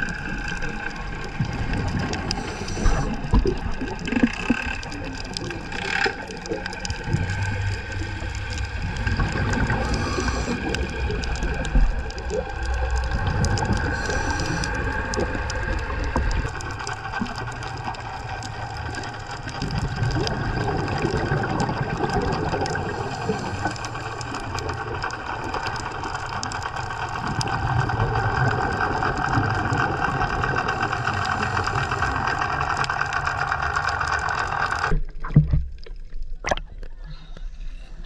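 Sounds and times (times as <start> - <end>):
boat engine drone underwater: 0.0 - 38.0.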